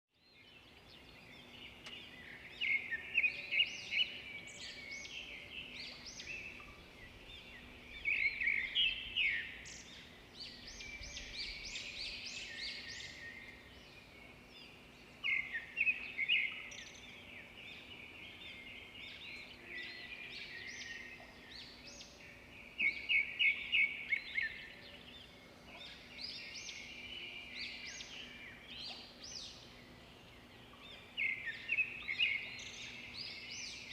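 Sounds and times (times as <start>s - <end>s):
birds chirping and trilling: 0.2s - 33.9s.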